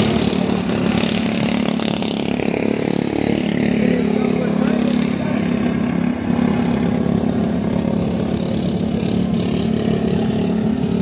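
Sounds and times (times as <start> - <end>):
lawn mower engines racing: 0.0 - 11.0.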